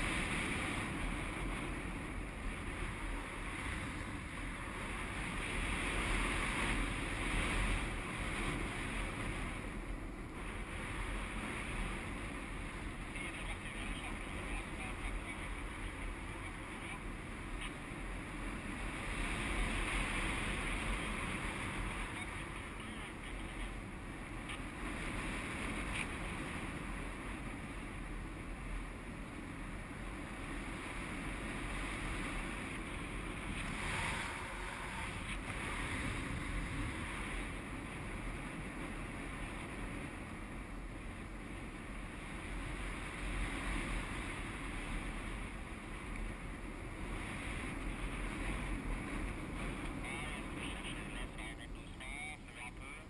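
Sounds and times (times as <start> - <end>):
airflow rushing over microphone: 0.0 - 53.0.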